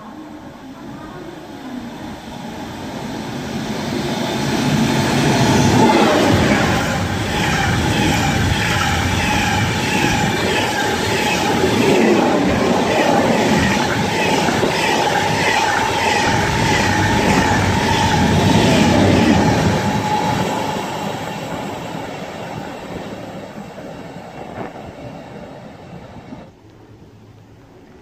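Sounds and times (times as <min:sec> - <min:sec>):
high-speed train passing: 0:00.0 - 0:27.2.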